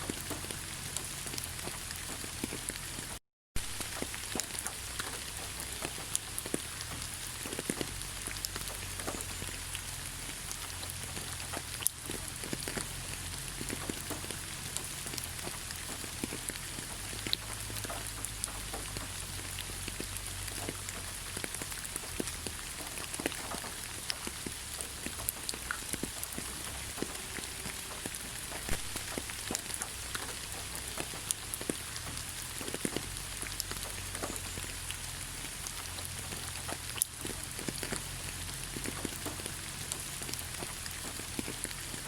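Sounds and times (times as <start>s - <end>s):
rain falling on foliage: 0.0s - 42.0s.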